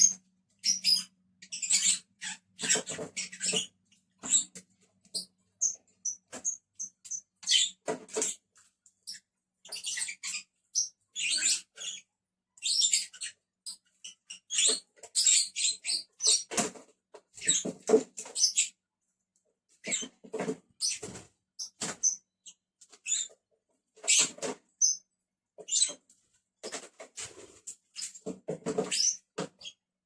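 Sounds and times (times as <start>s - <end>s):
lovebirds chirping and chattering: 0.0s - 18.8s, 19.8s - 23.4s, 24.0s - 26.0s, 26.6s - 29.9s.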